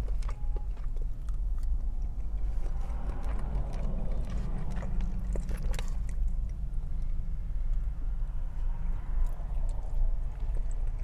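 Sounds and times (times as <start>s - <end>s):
chewing with wet mouth clicks: 0.0s - 7.8s, 9.2s - 11.0s
steady low rumble: 0.0s - 11.0s.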